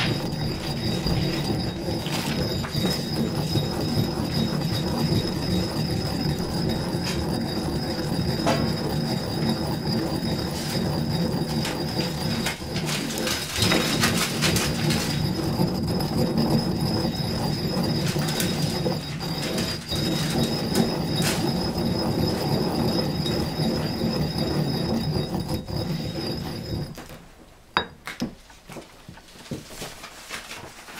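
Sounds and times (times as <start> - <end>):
pestle knocking in mortar: 0.0 - 27.2, 27.8 - 28.4
stone pestle grinding in mortar: 0.0 - 27.2.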